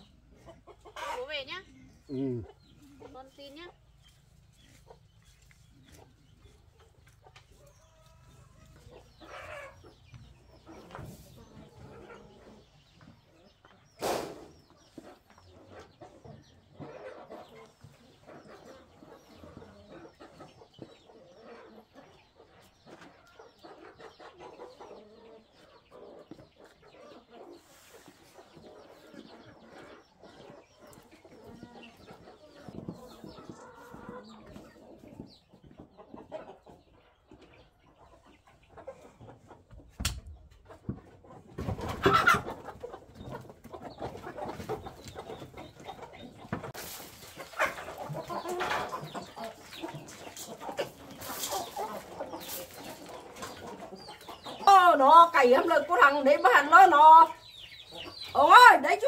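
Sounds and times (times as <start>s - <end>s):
chicks cheeping: 0.0s - 59.0s
hen clucking: 0.0s - 59.0s.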